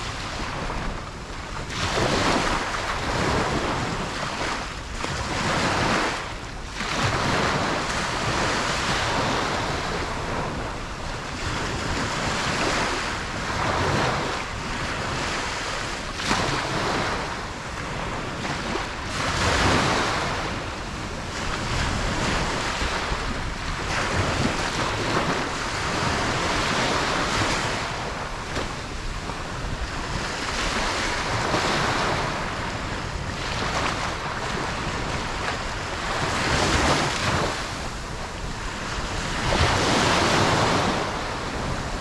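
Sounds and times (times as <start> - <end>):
ocean waves breaking: 0.0 - 42.0
wind buffeting microphone: 0.0 - 42.0.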